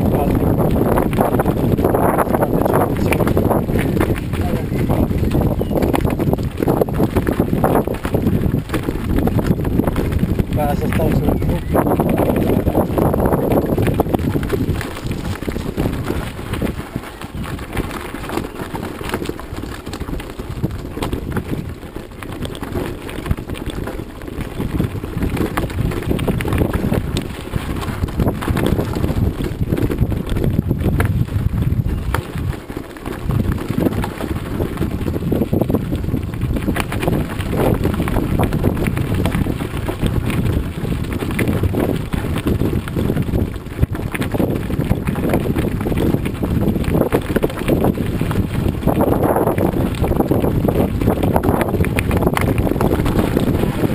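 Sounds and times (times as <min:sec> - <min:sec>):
bike rattling over bumps: 0:00.0 - 0:53.9
tyres crunching on gravel: 0:00.0 - 0:53.9.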